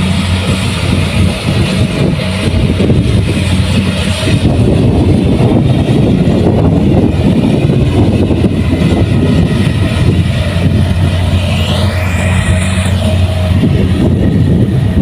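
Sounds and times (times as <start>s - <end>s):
combine harvester engine drone: 0.0s - 15.0s
threshing machinery rattling: 0.0s - 15.0s.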